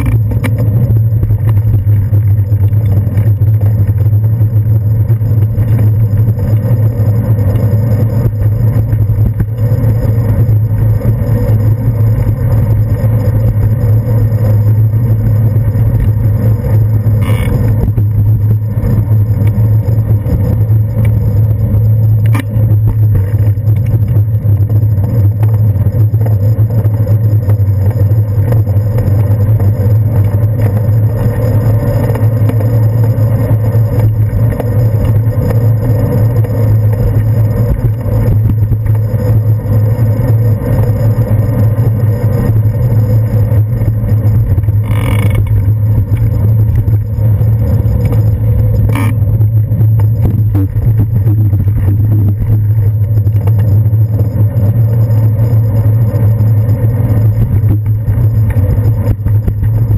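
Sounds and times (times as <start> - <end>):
wind and road rumble: 0.0 - 59.9.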